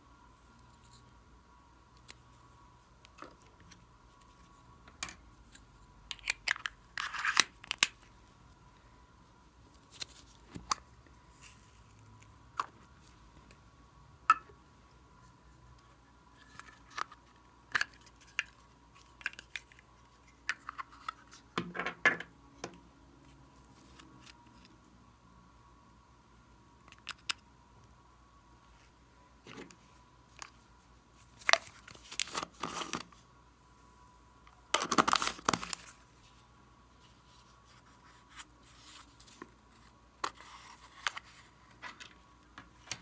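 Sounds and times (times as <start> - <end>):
faint steady whine: 0.0 - 43.0.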